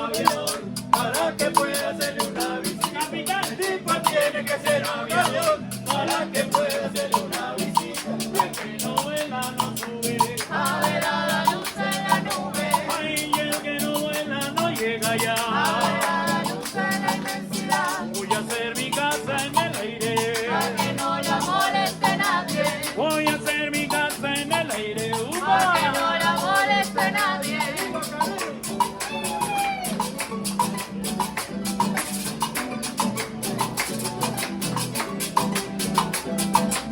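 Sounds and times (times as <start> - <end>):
acoustic guitar: 0.0 - 36.9
hand percussion shaking: 0.0 - 36.9.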